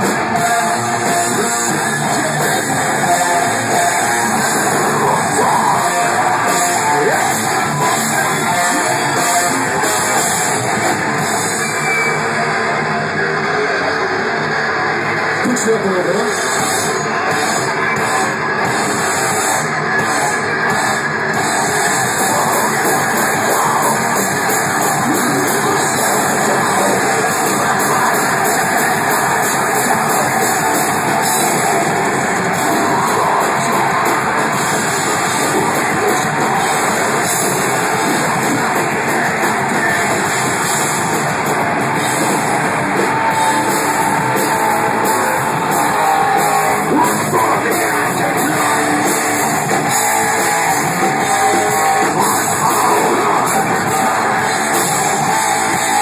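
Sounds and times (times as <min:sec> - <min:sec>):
drum kit: 0:00.0 - 0:12.5, 0:15.4 - 0:56.0
screamed vocals: 0:00.0 - 0:12.5, 0:16.1 - 0:41.1, 0:42.0 - 0:56.0
electric guitars: 0:00.0 - 0:56.0.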